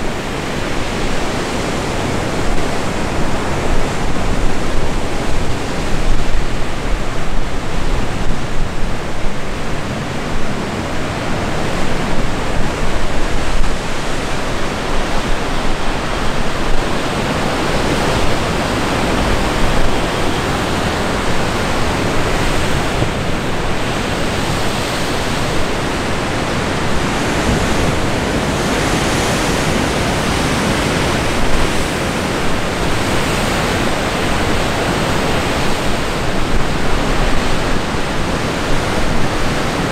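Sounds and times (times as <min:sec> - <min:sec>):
ocean waves breaking on rocks: 0:00.0 - 0:39.9
wind gusting on microphone: 0:00.0 - 0:39.9.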